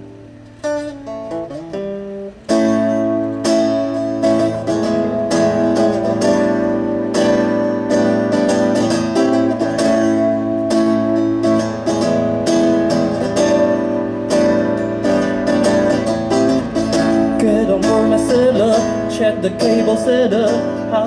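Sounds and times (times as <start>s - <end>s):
guitar strumming chords: 0.0s - 21.0s.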